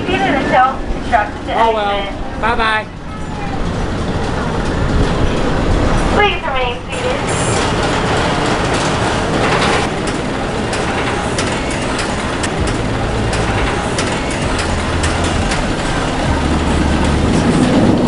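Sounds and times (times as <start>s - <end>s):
low rumble: 0.0s - 18.0s
train standing noise: 0.0s - 18.0s.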